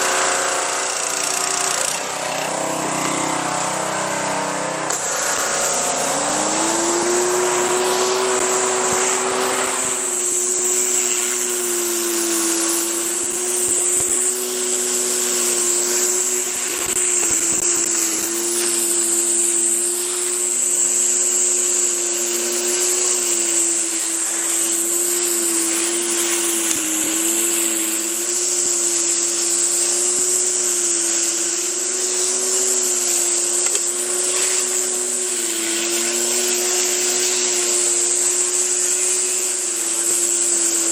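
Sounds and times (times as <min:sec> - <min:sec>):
high-pressure water spraying: 0:00.0 - 0:40.9
pressure washer engine running: 0:00.0 - 0:40.9.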